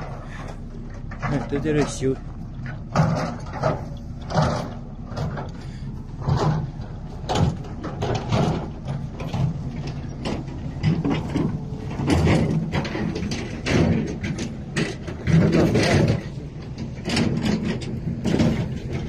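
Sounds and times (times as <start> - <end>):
diesel engine running: 0.0 - 19.0
metallic knocks and clanks: 0.0 - 19.0.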